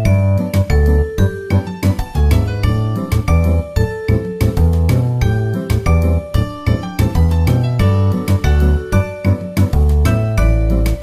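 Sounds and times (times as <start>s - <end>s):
music with quick beat and bass: 0.0s - 11.0s.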